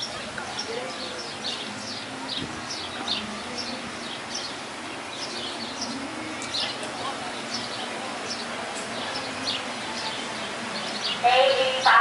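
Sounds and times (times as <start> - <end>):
bird chirping: 0.0 - 11.9.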